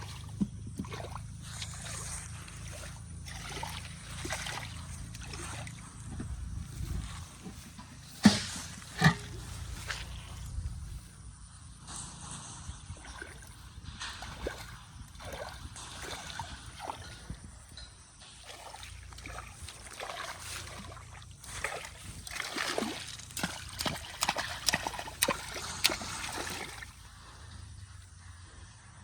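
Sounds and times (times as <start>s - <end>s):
sharp water slaps: 0.0s - 10.5s, 13.1s - 17.5s, 18.4s - 27.2s
splashing in muddy water: 0.0s - 28.3s.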